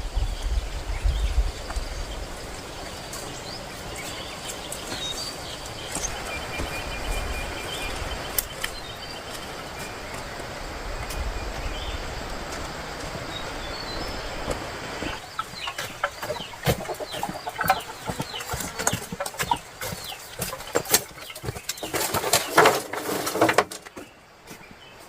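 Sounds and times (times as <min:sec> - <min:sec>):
steady rushing noise: 0:00.0 - 0:21.9
wing flapping: 0:01.5 - 0:23.8
chickens peeping and clucking: 0:01.6 - 0:24.1.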